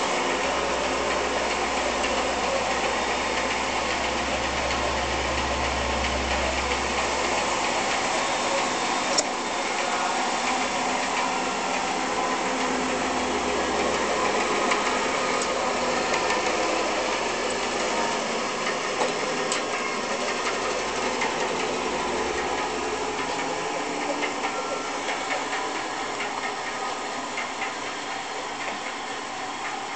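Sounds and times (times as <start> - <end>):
bandsaw running with steady hum: 0.0 - 29.9.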